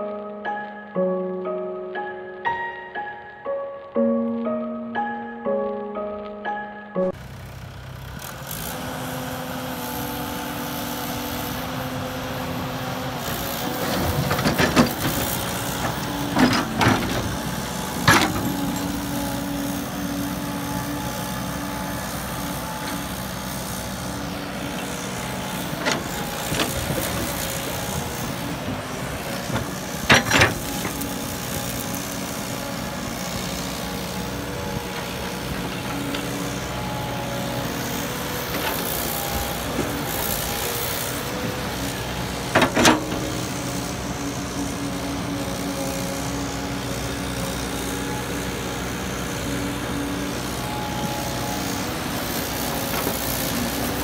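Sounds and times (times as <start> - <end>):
excavator diesel engine: 6.8 - 54.0.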